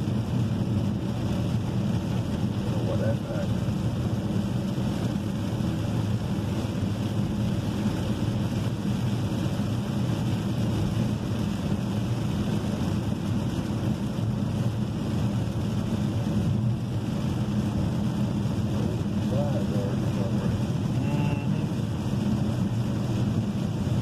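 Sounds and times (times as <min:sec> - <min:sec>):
rain on car body: 0:00.0 - 0:24.0
road rumble: 0:00.0 - 0:24.0.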